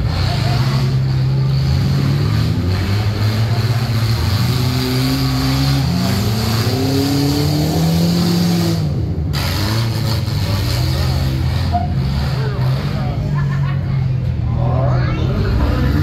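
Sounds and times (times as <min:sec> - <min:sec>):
car engine revving: 0:00.0 - 0:13.6, 0:14.2 - 0:16.0.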